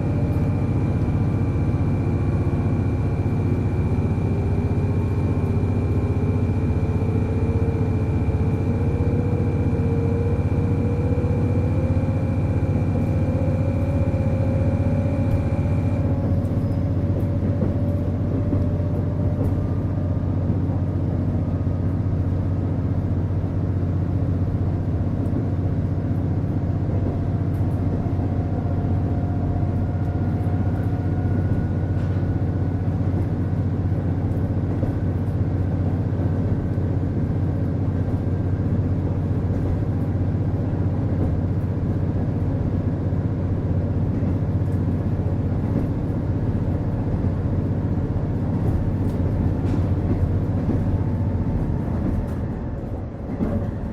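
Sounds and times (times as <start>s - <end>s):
diesel engine drone: 0.0s - 53.9s.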